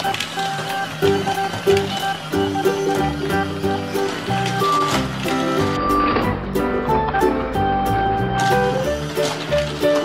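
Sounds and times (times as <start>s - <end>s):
background music with steady beat: 0.6s - 10.0s.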